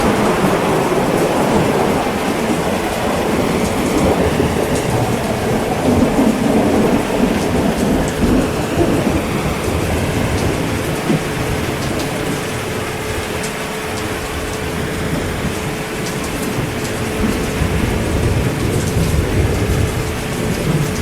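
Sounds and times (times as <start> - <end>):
heavy rain: 0.0 - 21.0
low thunder rumble: 0.0 - 21.0.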